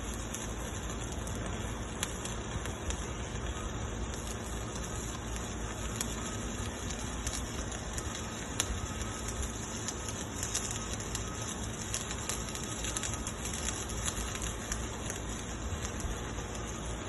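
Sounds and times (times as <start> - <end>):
welding arc crackling: 0.0 - 17.0.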